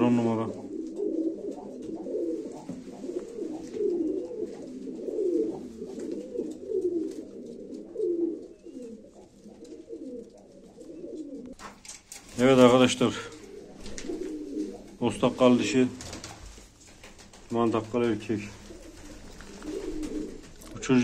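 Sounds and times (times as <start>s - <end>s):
pigeons cooing: 0.0s - 11.6s, 12.4s - 21.0s.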